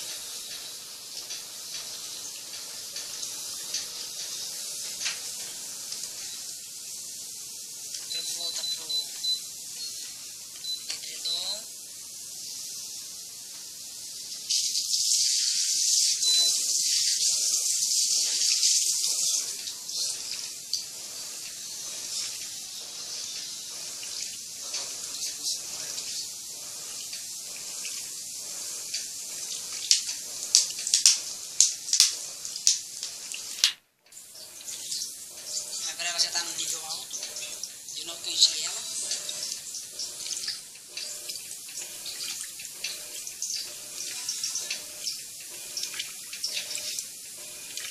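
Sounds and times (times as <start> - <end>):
water filling washing machine: 0.0 - 47.9.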